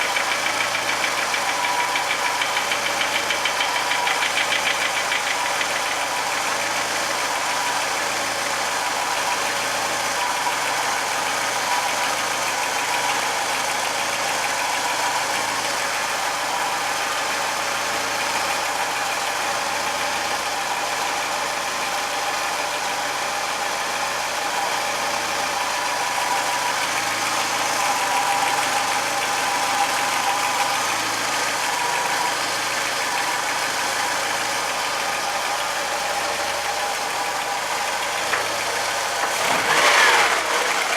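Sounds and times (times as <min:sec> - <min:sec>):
car engine idling: 0:00.0 - 0:40.9
engine knock: 0:00.0 - 0:40.9.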